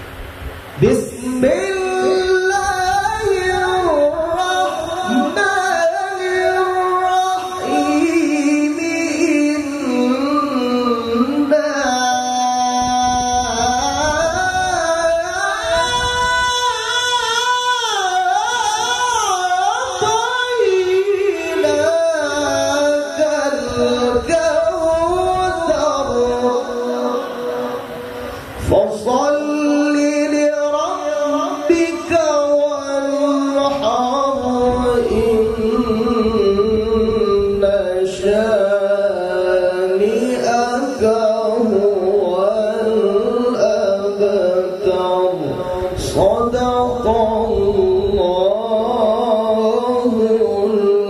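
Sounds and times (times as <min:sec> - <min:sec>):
man chanting into a microphone: 0:00.8 - 0:51.0.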